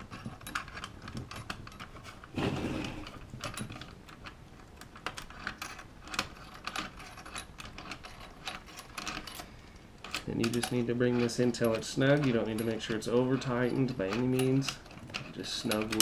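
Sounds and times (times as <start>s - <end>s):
lock clicking and rattling: 0.0s - 16.0s.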